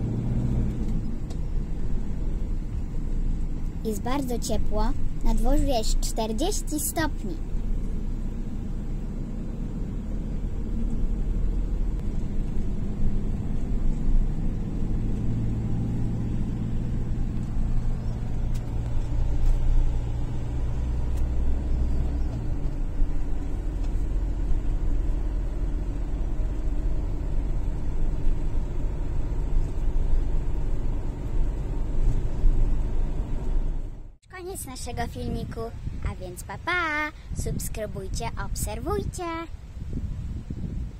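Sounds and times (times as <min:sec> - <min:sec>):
low engine hum: 0:00.0 - 0:40.9
vehicle engine and road rumble: 0:00.0 - 0:40.9.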